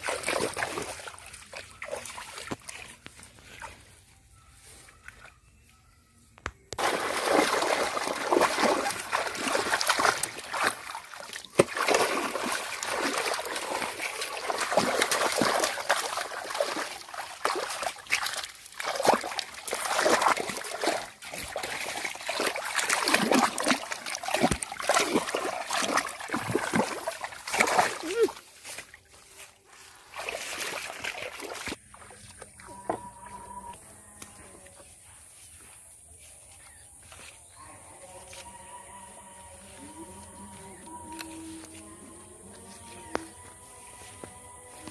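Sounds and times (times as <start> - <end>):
water splashing and sloshing: 0.0 - 5.5, 6.7 - 37.4.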